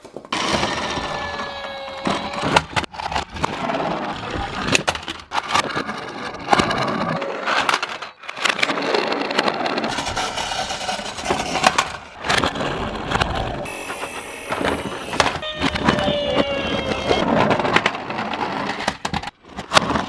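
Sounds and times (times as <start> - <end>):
toy cars rolling on a track: 0.0 - 20.0.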